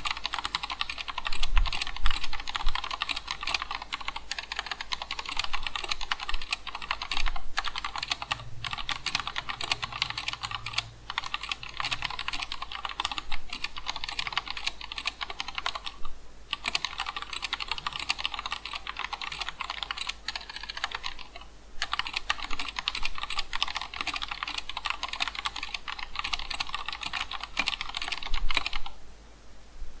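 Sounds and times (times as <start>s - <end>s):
fast typing on mechanical keyboard: 0.0s - 29.0s.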